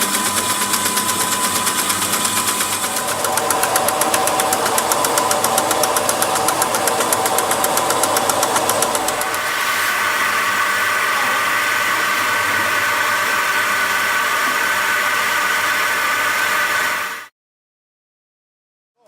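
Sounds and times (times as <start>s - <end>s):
tempering machine whirring hum: 0.0s - 17.2s.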